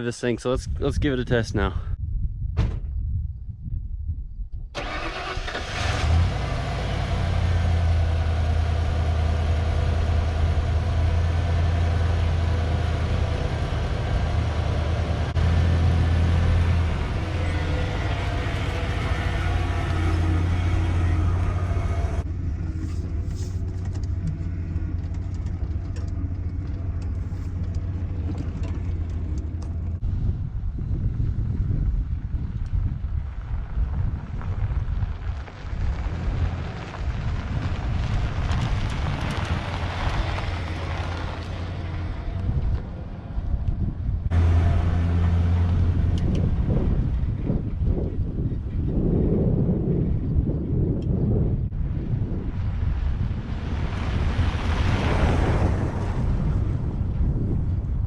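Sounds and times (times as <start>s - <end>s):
engine running: 4.8s - 58.0s.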